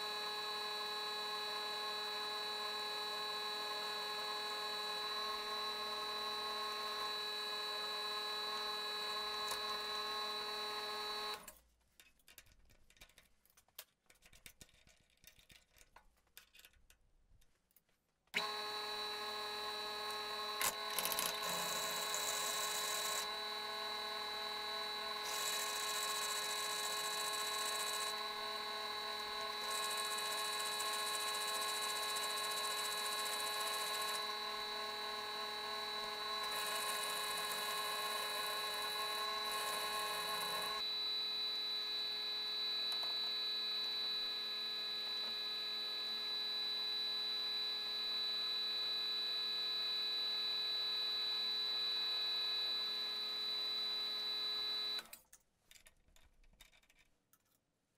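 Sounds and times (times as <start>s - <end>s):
machine spindle whine: 0.0s - 11.4s, 18.4s - 55.1s
drill cutting into metal: 0.0s - 11.5s, 18.4s - 55.1s.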